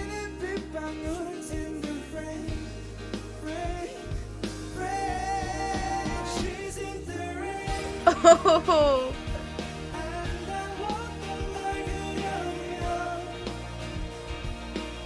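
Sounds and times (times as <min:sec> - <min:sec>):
man singing: 0:00.0 - 0:14.9
rock band playing ballad: 0:00.0 - 0:15.0
steady bass line: 0:00.0 - 0:15.0.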